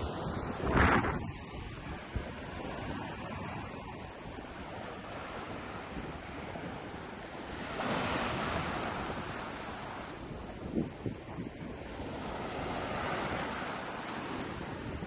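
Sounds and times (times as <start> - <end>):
ocean surf on a beach: 0.0 - 15.0
wind rumbling on microphone: 0.0 - 15.0.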